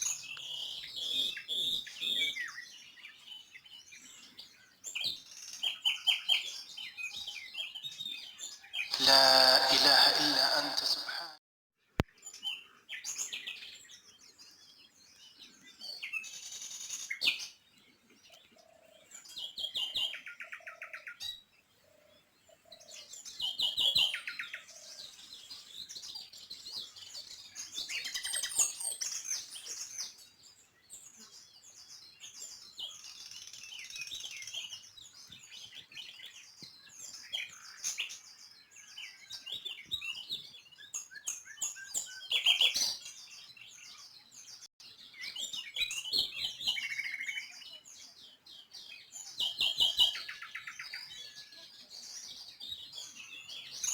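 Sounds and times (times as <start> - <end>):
small birds chirping: 0.0 - 10.7, 12.0 - 53.9.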